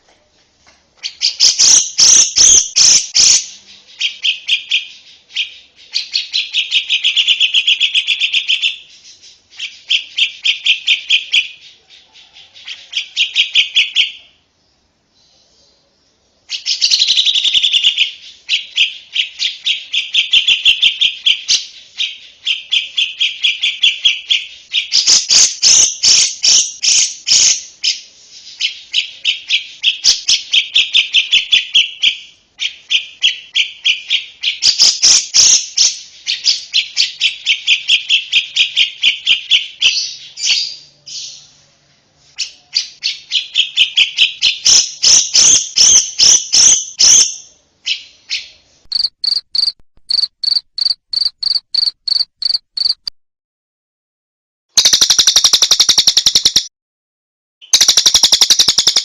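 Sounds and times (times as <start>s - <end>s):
lovebird singing trills: 1.0s - 14.3s, 16.5s - 41.5s, 42.4s - 53.1s, 54.8s - 56.7s, 57.6s - 59.0s.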